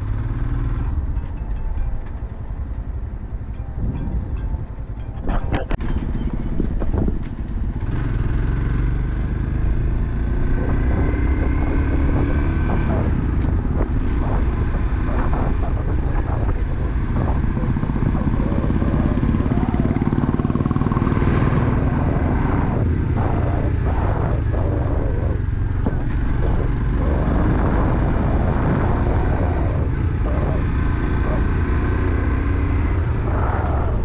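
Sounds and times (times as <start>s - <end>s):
motorcycle engine running: 0.0s - 34.0s
wind and road noise: 0.0s - 34.0s.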